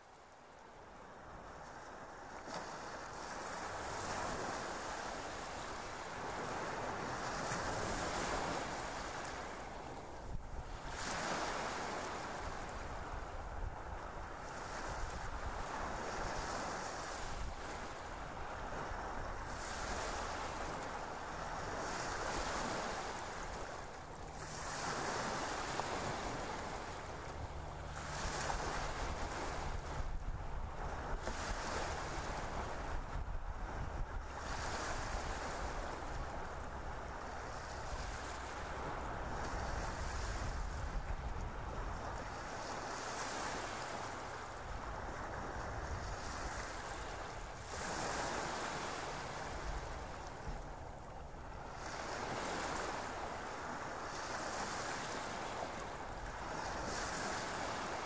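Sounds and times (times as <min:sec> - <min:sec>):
ocean waves on shore: 0:00.0 - 0:58.0.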